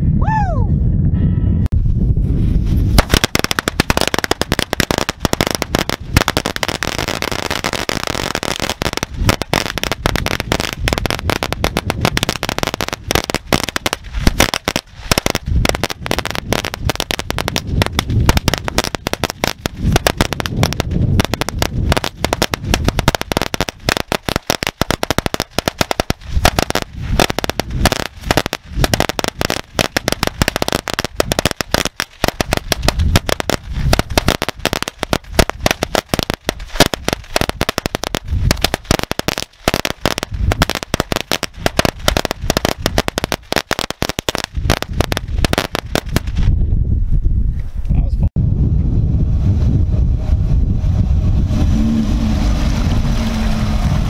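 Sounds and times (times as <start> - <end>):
firecrackers banging: 2.9 - 46.5.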